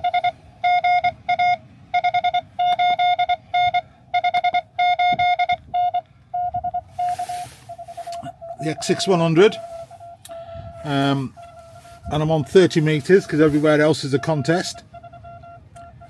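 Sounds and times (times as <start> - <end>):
morse code tone: 0.0 - 16.0.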